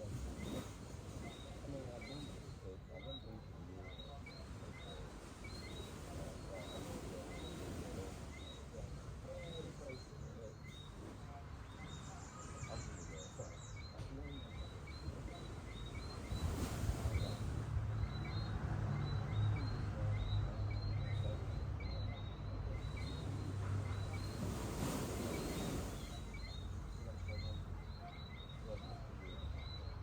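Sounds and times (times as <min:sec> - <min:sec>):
distant voices murmuring: 0:00.0 - 0:30.0
gentle surf: 0:00.0 - 0:30.0.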